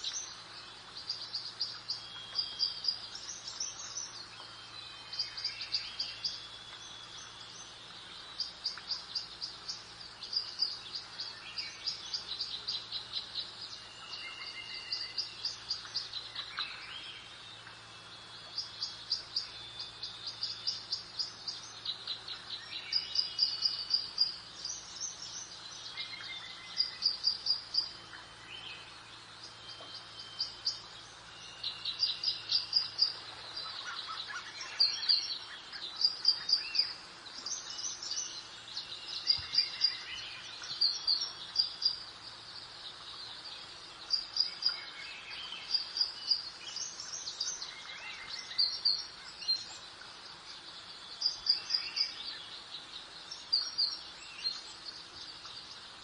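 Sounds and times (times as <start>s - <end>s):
birds chirping: 0.0s - 56.0s
soft background hiss: 0.0s - 56.0s.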